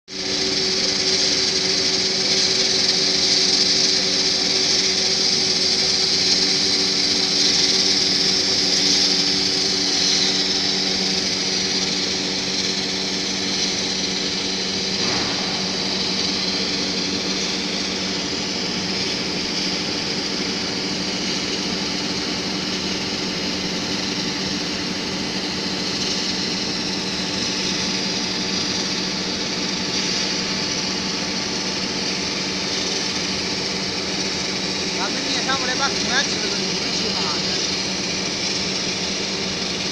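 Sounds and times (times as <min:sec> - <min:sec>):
wire drawing machine humming: 0:00.1 - 0:39.9.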